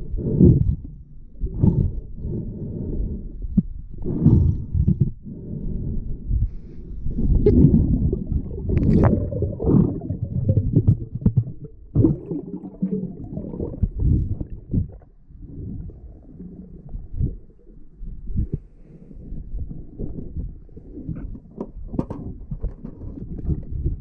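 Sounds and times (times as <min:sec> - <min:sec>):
underwater rumbling and swishing: 0:00.0 - 0:24.0.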